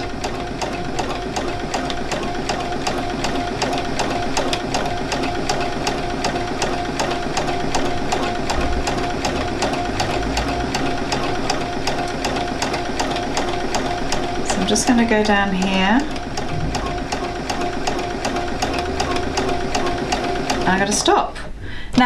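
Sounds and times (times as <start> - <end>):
sewing machine running: 0.0 - 21.2.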